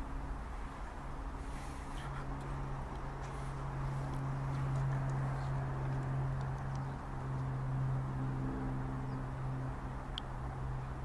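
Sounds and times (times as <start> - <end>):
distant highway traffic drone: 0.0 - 11.0.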